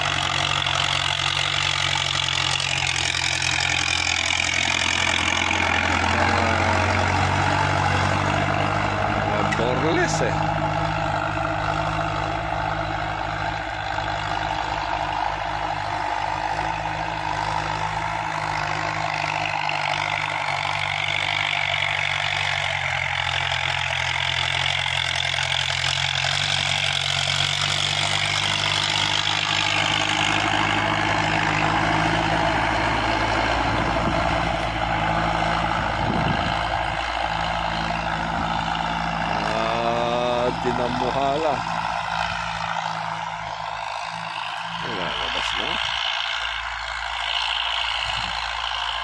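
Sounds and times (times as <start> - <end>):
diesel tractor engine rumble: 0.0 - 49.0.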